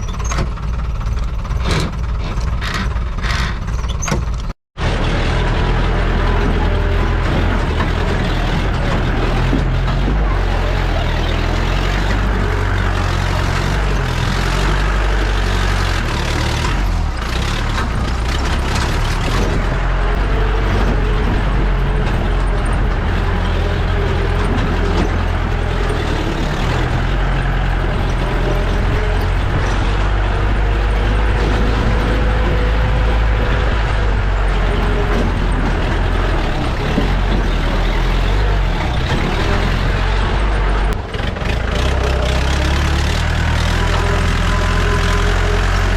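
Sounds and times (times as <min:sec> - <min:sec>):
jeep engine rumbling: 0:00.0 - 0:45.9.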